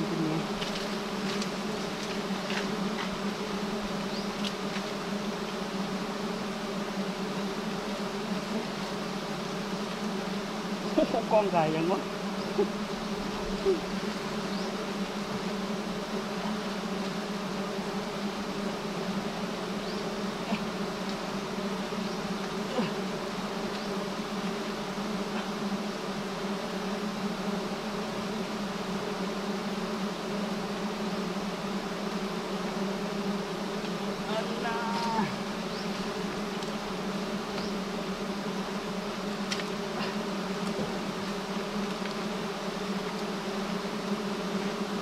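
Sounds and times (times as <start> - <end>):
bees buzzing: 0.0 - 45.0.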